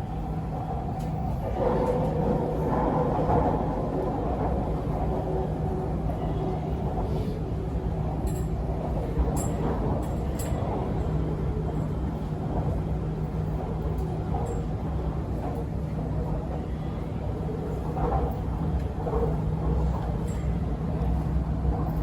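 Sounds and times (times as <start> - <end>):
metro train running rumble: 0.0 - 22.0.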